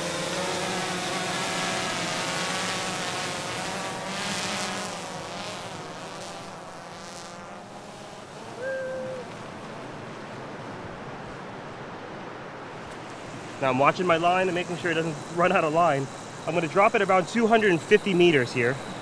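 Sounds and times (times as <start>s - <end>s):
drone propellers buzzing: 0.0s - 10.6s, 13.0s - 19.0s.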